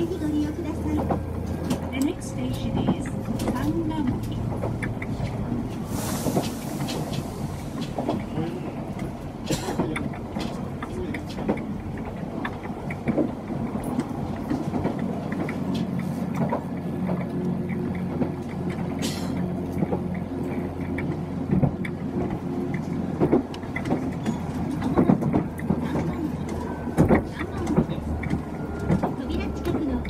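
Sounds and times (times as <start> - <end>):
train running hum: 0.0 - 30.0
wheels clicking over rail joints: 0.0 - 30.0.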